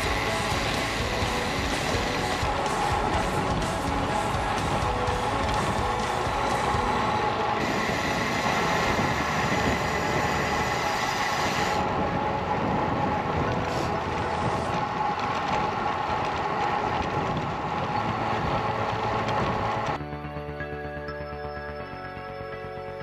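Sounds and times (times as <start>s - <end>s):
bicycle tyre road noise: 0.0s - 20.0s
wind on microphone: 0.0s - 20.0s.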